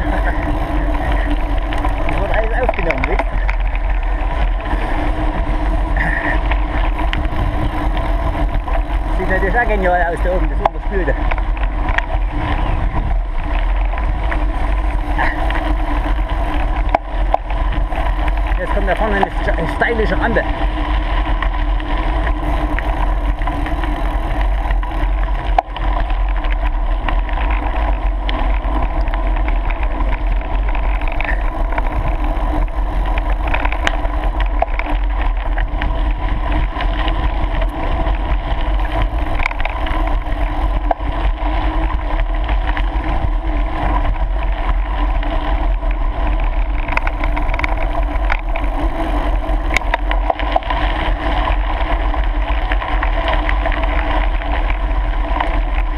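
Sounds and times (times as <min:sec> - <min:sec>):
bike tyres rolling on gravel: 0:00.0 - 0:55.9.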